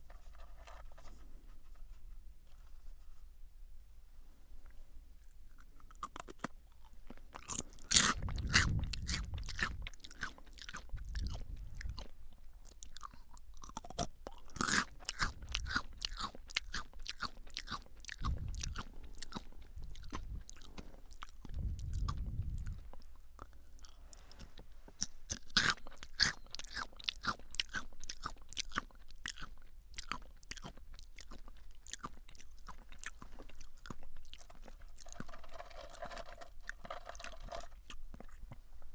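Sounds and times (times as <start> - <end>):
potato sticks crunching: 5.2 - 24.0, 25.0 - 38.5.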